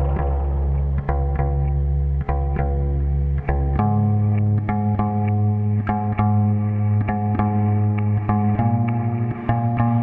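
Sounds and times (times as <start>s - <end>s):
electric guitar with effects: 0.0s - 10.0s
steady low tone: 0.0s - 10.0s.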